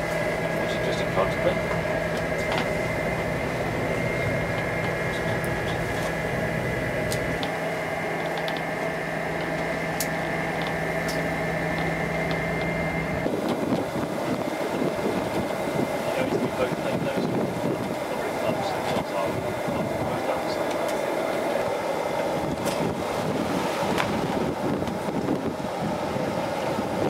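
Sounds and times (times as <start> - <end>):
boat engine humming: 0.0 - 27.0
water splashing along hull: 0.0 - 27.0.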